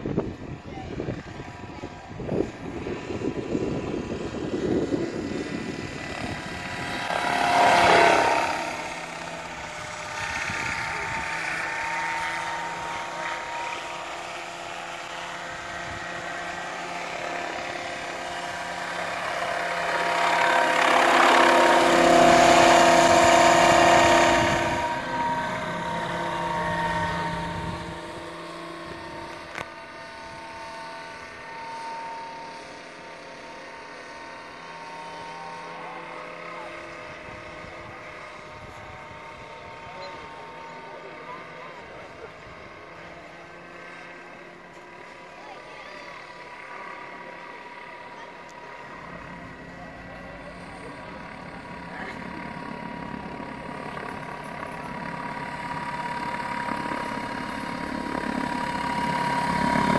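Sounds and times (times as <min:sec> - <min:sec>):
model helicopter whine and rotor: 0:00.0 - 0:59.9.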